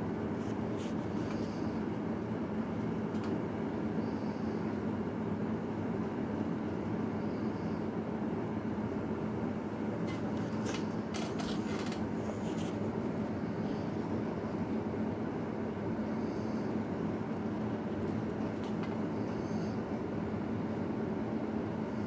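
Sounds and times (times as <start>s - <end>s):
low background hum and rumble: 0.0s - 22.0s.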